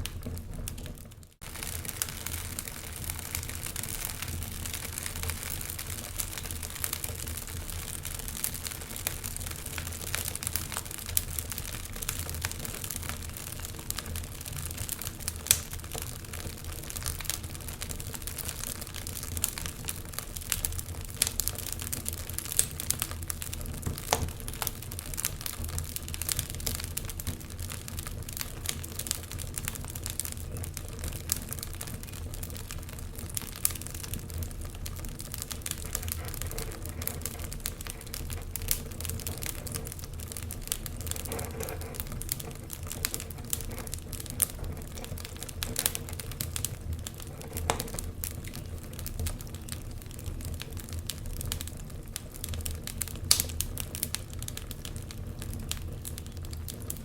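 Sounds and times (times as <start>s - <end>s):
fire pops: 0.0s - 57.0s
wood fire crackling: 0.0s - 57.0s.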